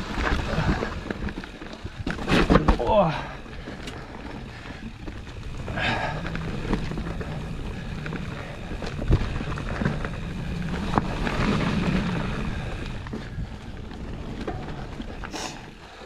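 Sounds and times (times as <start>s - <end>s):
bike knocks and rattles: 0.0s - 15.6s
bike tyres rumbling: 0.0s - 16.0s.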